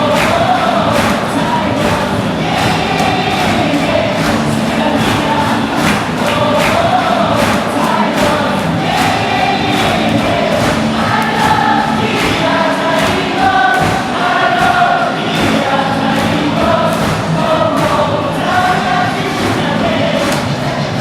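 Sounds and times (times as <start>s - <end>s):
crowd singing cheer song: 0.0s - 21.0s
steady beat: 0.0s - 21.0s.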